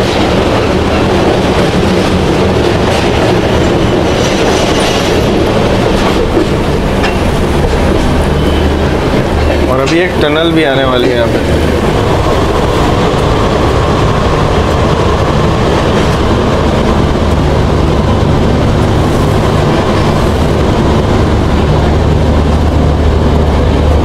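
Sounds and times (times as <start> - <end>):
train rumble and rattle: 0.0 - 24.0.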